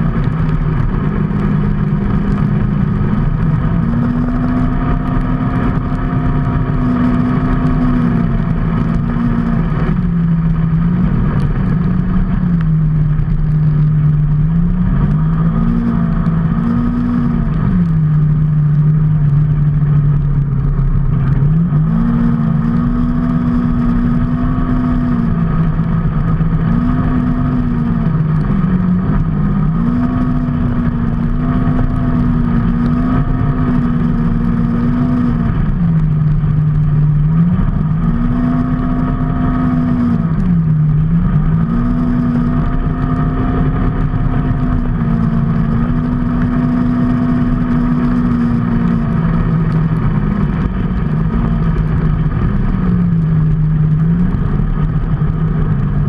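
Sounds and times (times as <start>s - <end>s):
steady rushing noise: 0.0s - 56.0s
vehicle engine running: 0.0s - 56.0s.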